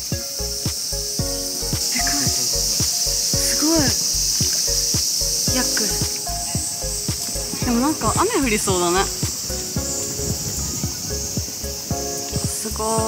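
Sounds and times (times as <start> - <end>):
background music with beat: 0.0 - 13.0
insects buzzing: 0.0 - 13.0.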